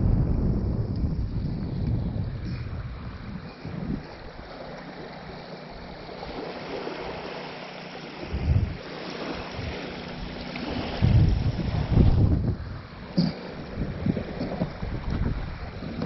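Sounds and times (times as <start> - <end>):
wind gusting on microphone: 0.0 - 5.2, 8.2 - 16.0
small waves lapping on shore: 1.0 - 16.0.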